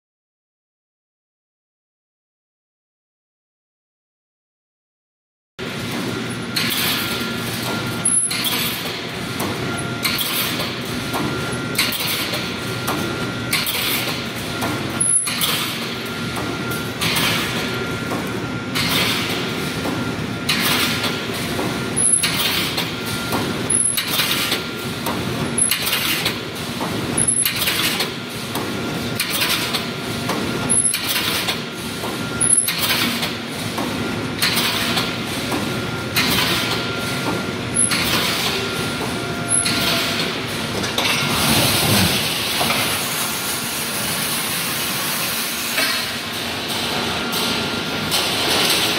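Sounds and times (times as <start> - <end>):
welding machine noise: 5.6 - 48.9.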